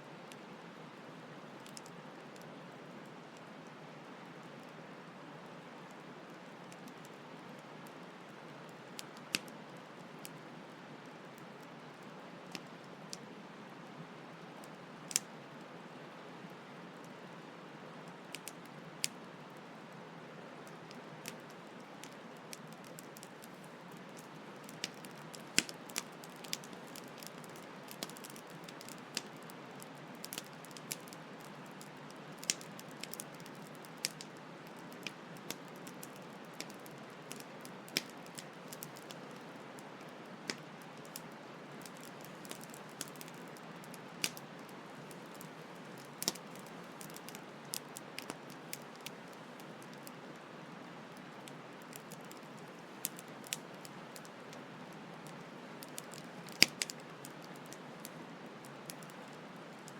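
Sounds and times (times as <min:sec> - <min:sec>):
campfire crackling and popping: 0:06.3 - 0:11.8, 0:12.4 - 0:13.3, 0:14.6 - 0:15.4, 0:17.9 - 0:19.5, 0:20.6 - 0:59.9.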